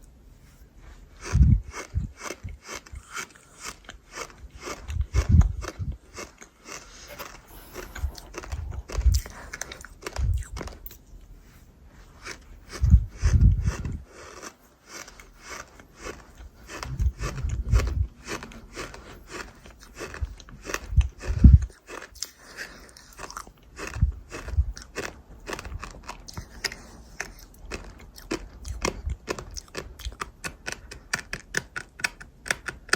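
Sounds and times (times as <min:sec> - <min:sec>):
mouth chewing crunchy food: 0:00.4 - 0:32.9.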